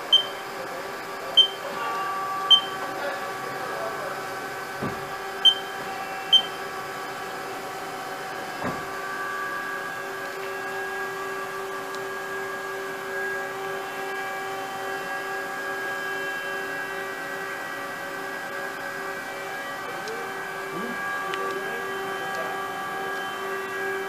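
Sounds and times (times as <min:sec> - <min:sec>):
lathe machine whine: 0:00.0 - 0:24.0.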